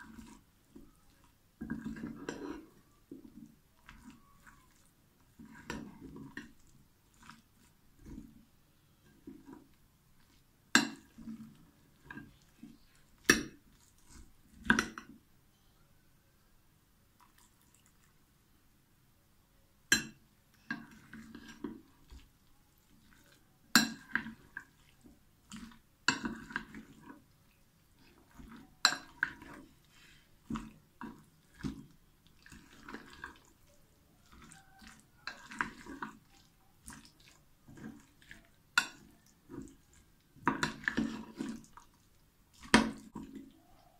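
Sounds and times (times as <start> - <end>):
wet squelching of batter: 0.0 - 15.2, 17.0 - 18.3, 20.3 - 43.9.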